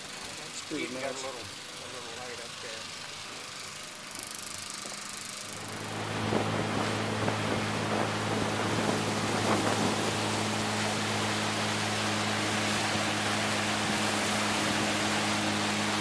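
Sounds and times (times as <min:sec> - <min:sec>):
motorboat engine droning: 0:00.0 - 0:16.0
wind and water hiss: 0:00.0 - 0:16.0.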